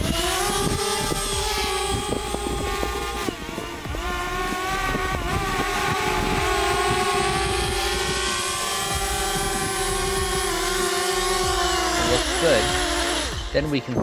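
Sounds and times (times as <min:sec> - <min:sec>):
drone propellers whining: 0:00.0 - 0:14.0
low gusty rumble on microphone: 0:00.0 - 0:14.0.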